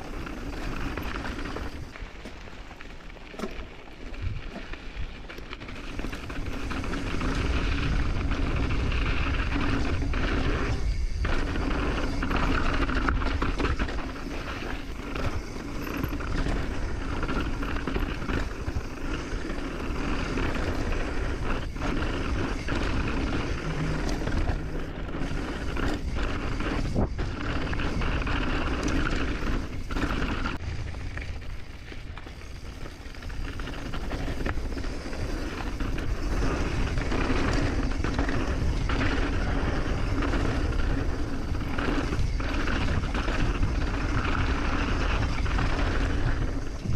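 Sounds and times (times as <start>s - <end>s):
bike tyres and frame rattling: 0.0s - 46.9s
wind rush over microphone: 5.9s - 31.7s, 32.5s - 46.9s.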